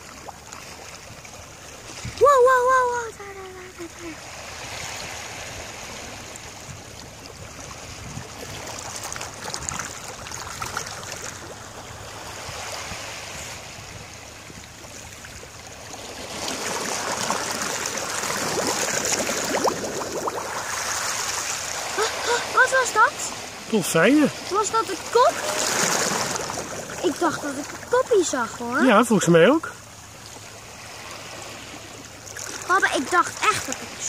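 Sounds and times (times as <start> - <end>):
small waves lapping: 0.0 - 34.0.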